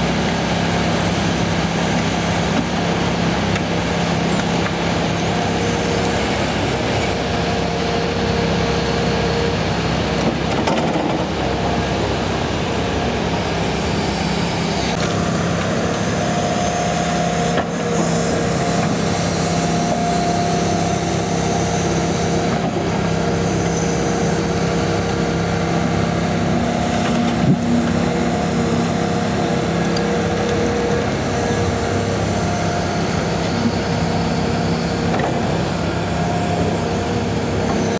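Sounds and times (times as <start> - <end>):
excavator diesel engine: 0.0 - 37.9
hydraulics whining: 0.0 - 37.9.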